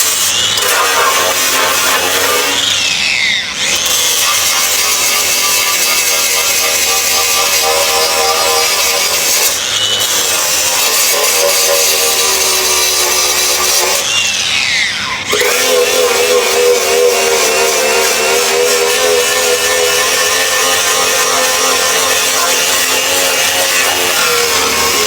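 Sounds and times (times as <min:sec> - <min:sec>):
power tool running on metal: 0:00.0 - 0:25.0.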